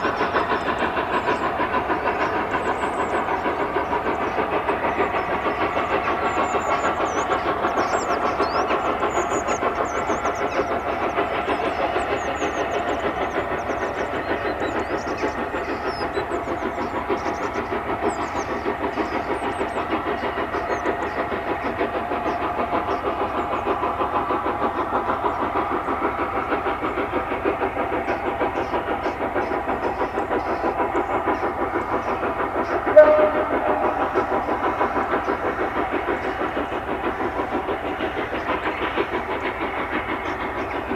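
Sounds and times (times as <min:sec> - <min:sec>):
steam locomotive exhaust beating: 0:00.0 - 0:40.9.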